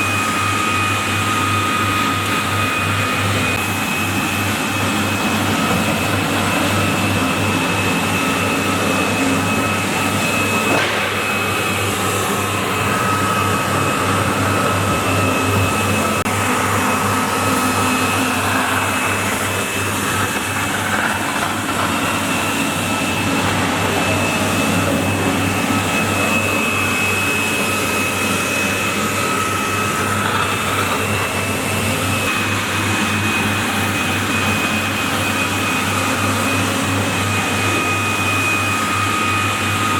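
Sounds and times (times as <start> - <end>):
floor scrubber humming and whining: 0.0 - 39.9.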